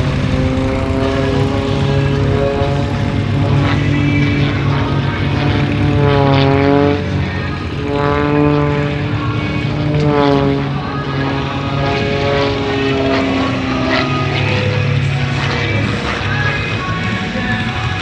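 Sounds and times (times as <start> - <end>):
propeller plane engine: 0.0 - 18.0.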